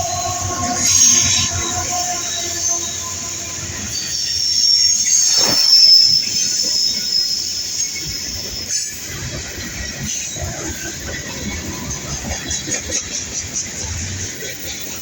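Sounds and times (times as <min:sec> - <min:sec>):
rumble of train cars: 0:00.0 - 0:15.0
train wheels squealing: 0:00.0 - 0:15.0.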